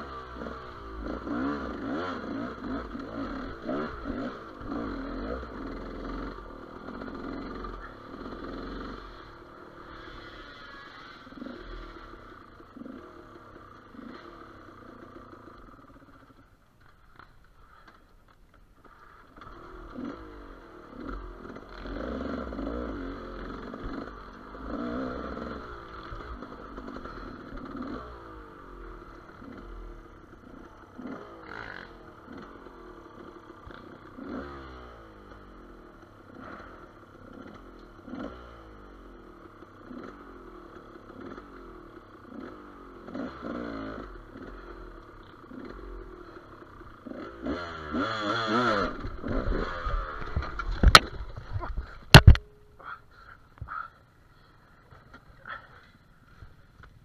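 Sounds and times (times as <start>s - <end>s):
two-stroke motorcycle engine revving: 0.0s - 16.5s, 18.8s - 53.0s.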